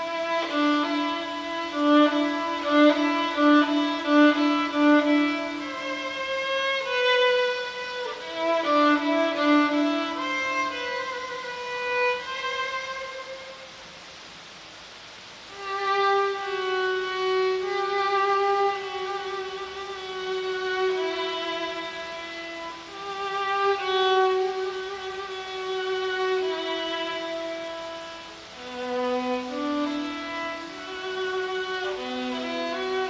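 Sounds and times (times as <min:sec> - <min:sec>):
solo violin melody: 0:00.0 - 0:14.0, 0:15.4 - 0:33.0.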